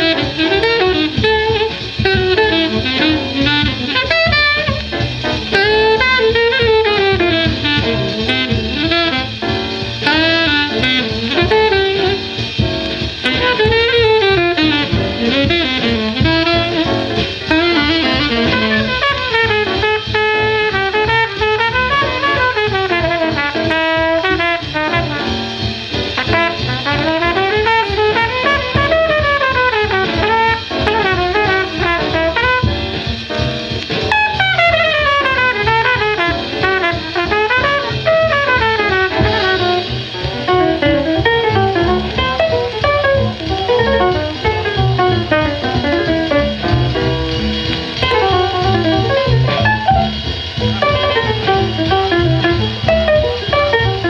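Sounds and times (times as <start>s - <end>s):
bebop jazz quintet on record: 0.0s - 54.0s.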